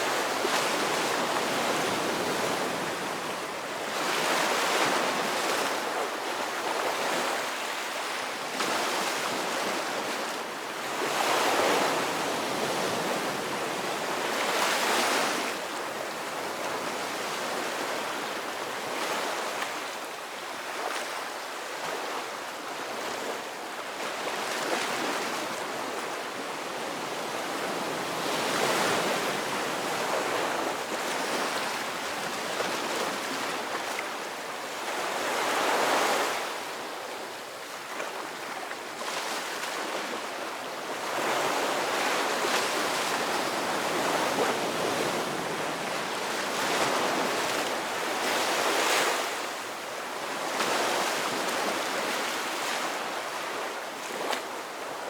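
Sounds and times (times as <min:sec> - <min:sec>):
ocean waves breaking on shore: 0:00.0 - 0:19.9, 0:24.0 - 0:55.0.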